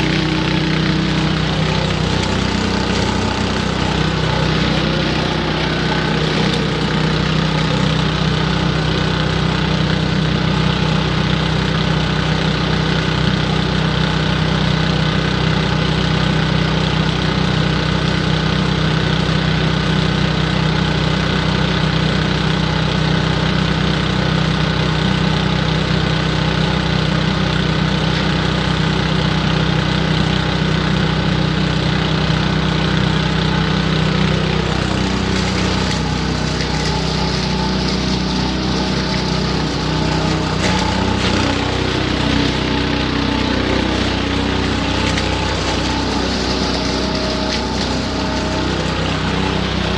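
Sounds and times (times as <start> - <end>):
leaf vacuum engine running: 0.0 - 49.9.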